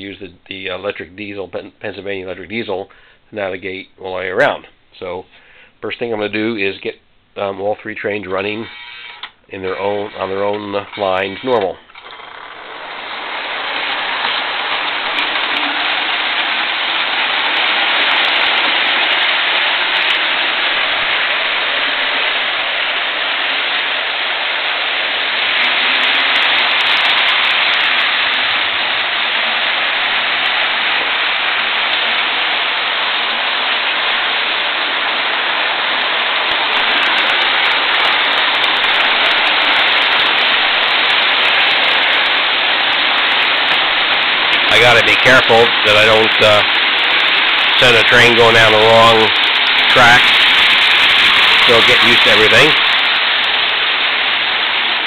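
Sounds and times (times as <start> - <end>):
model trains rumbling on track: 7.5 - 55.0.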